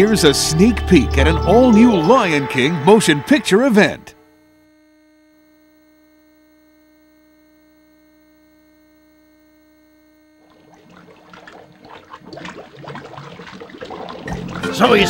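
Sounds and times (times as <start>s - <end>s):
faint tape playback hum: 0.0s - 12.2s
thin steady tones: 0.0s - 12.9s.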